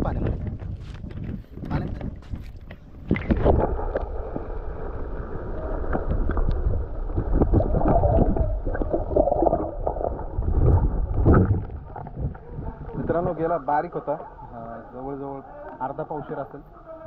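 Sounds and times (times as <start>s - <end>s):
underwater river gurgling: 2.9s - 17.0s.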